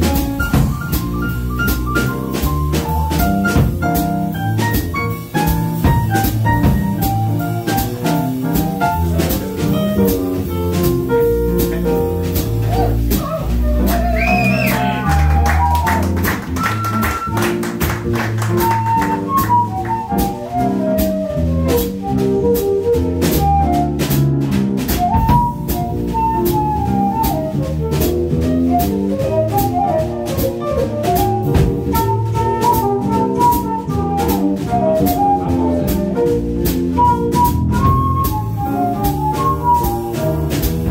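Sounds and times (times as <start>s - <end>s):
drum kit cymbals: 0.0s - 40.9s
flute melody: 0.0s - 40.9s
walking double bass: 0.0s - 40.9s.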